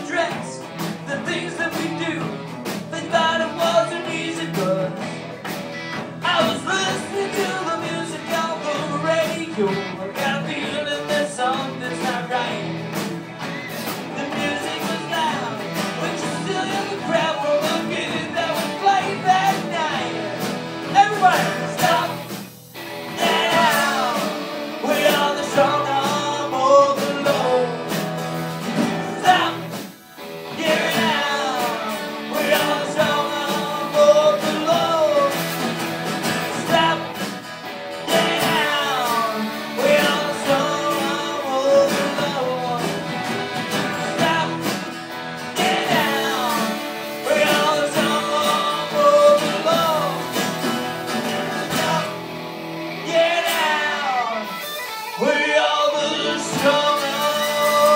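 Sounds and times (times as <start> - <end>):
person singing: 0.0 - 37.4, 38.0 - 57.9
live band playing: 0.0 - 57.9.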